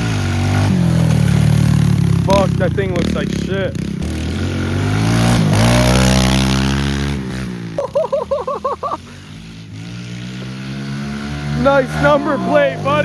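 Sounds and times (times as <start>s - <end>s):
motorbike engine revving and idling: 0.0s - 13.0s.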